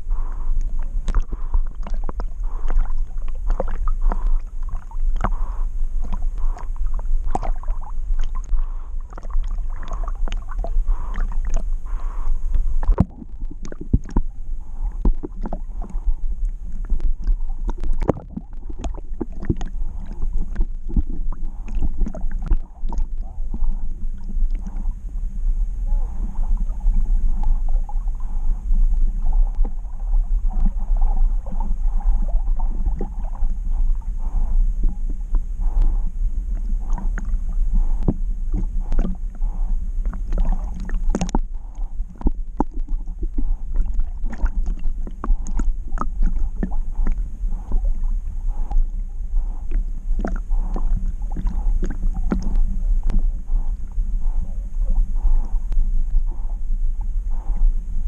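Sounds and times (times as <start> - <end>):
water splashes: 0.0 - 25.0, 25.9 - 56.6
water sloshing and gurgling: 0.0 - 58.0.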